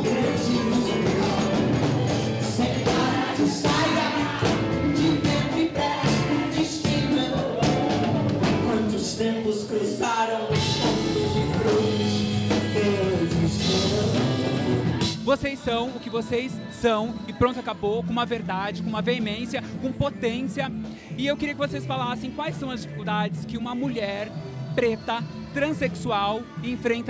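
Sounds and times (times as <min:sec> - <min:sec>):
lead singer's voice: 0:00.0 - 0:27.0
live pop band performing: 0:00.0 - 0:27.0.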